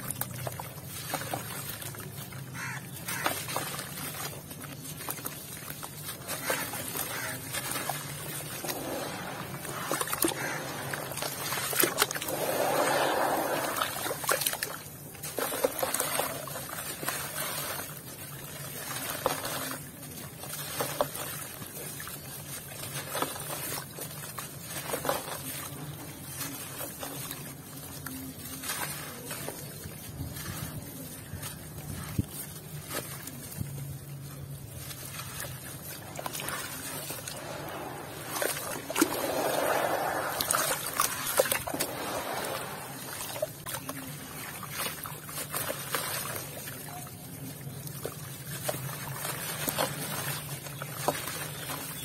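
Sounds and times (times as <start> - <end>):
water sloshing and trickling: 0.0 - 52.0.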